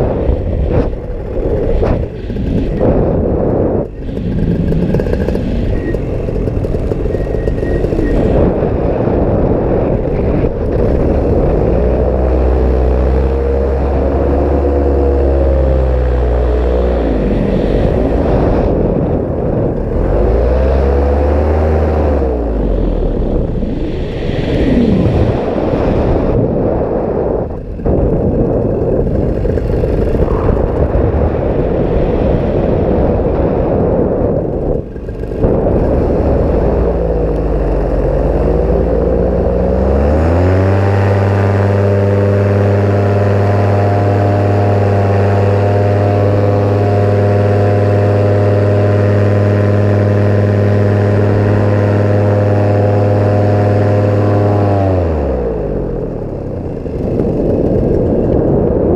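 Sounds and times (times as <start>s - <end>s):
rushing noise: 0.0s - 55.9s
paramotor engine and propeller: 0.0s - 58.9s.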